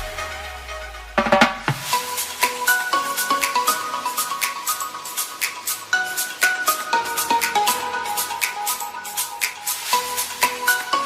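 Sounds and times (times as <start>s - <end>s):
melodic background music: 0.0s - 11.0s
shaker percussion beat: 1.2s - 11.0s.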